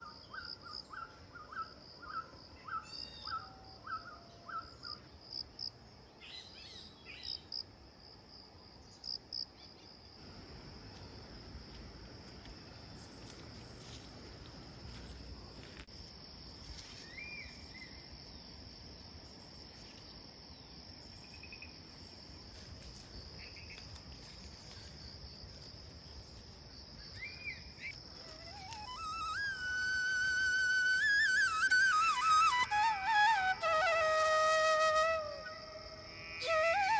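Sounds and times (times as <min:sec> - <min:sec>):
insects droning: 0:00.0 - 0:36.9.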